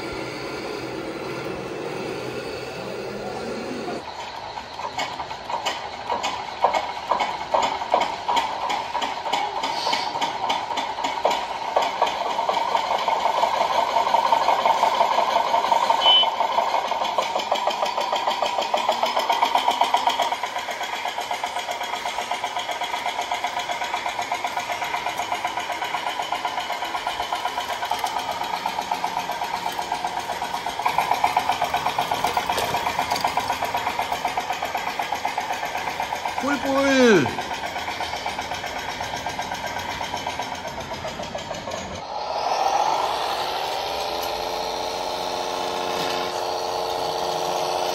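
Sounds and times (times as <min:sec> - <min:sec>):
model vehicle engine pulse: 0:00.0 - 0:47.9.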